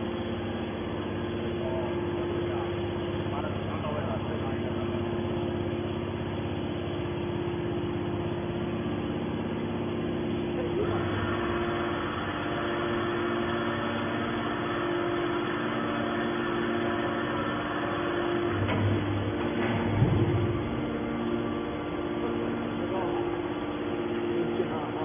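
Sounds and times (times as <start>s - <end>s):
baler machinery humming: 0.0s - 25.0s
harsh mechanical noise: 0.0s - 25.0s.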